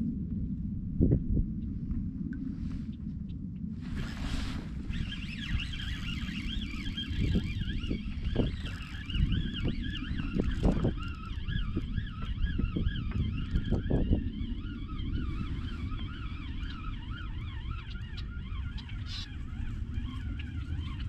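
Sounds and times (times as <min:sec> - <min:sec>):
wind buffeting microphone: 0:00.0 - 0:21.0
faint siren wailing: 0:04.1 - 0:21.0.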